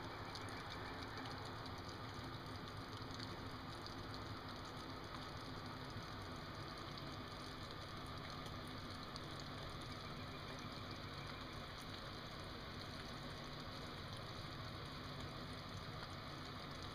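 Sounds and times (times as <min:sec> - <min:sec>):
low engine hum: 0:00.0 - 0:16.9.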